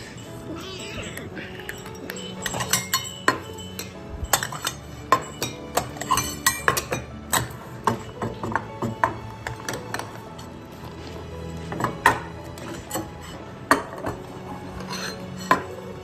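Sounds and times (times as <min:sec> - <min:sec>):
metal food bowl clinking: 0:00.0 - 0:16.0.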